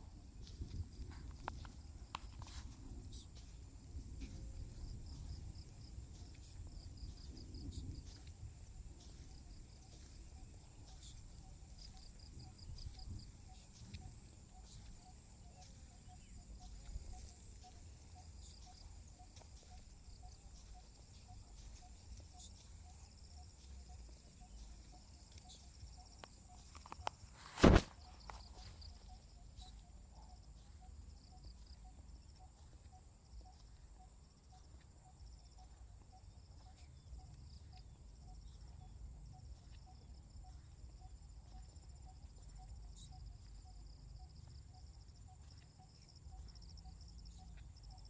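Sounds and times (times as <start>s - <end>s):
insects trilling: 0.1s - 48.0s.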